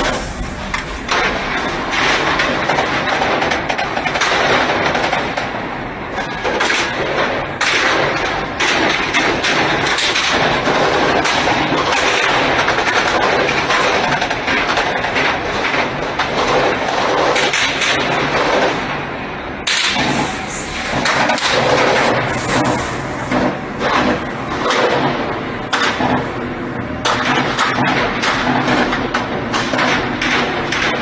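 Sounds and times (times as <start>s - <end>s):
heavy continuous gunfire: 0.0s - 31.0s.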